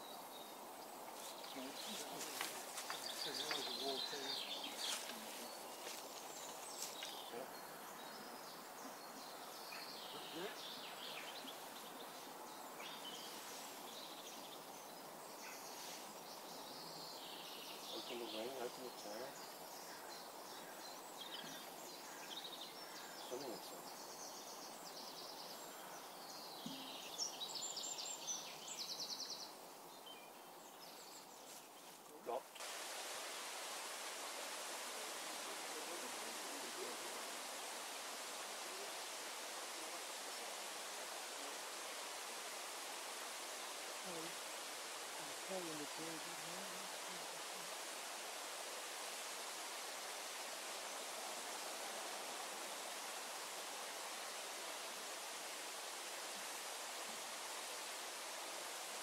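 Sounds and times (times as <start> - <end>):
small birds chirping: 0.0 - 59.0
steady hiss: 0.0 - 59.0.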